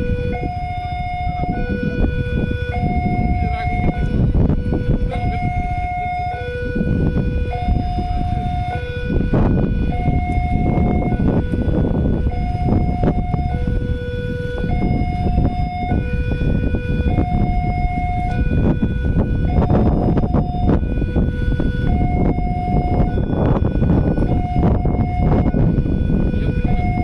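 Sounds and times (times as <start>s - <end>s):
level-crossing two-tone alarm: 0.0s - 27.0s
steady low rumble: 0.0s - 27.0s.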